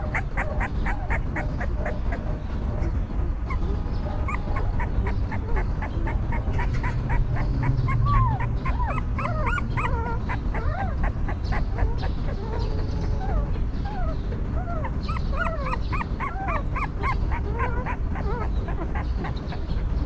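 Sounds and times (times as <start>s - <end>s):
newborn puppies whimpering and squeaking: 0.0s - 2.3s, 3.4s - 20.0s.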